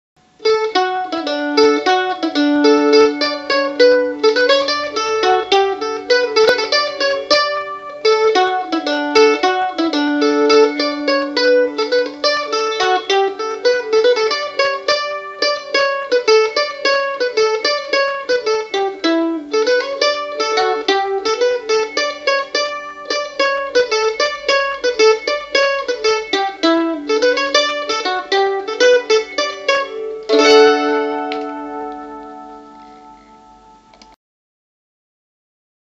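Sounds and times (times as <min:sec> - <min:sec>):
mandolin playing quickly picked notes: 0:00.3 - 0:34.1.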